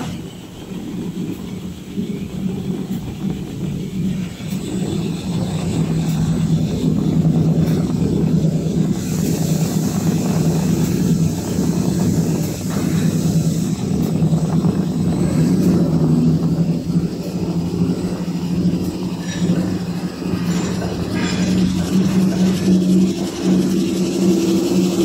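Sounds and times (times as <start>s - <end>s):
paper rewinding machine drone: 0.0s - 25.0s
bright hiss: 3.0s - 25.0s.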